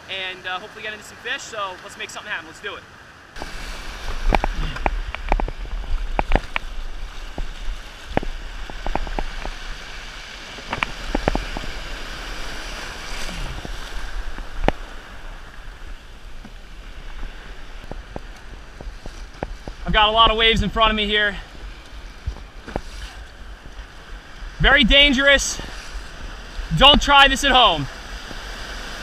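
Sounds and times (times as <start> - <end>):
surf washing: 0.0 - 29.0
water slapping kayak hull: 0.2 - 29.0.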